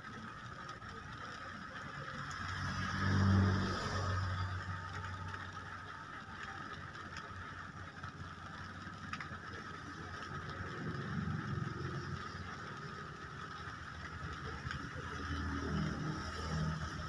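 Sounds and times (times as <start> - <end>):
rain on a car: 0.0 - 17.0
passing vehicle engine hum: 0.3 - 17.0.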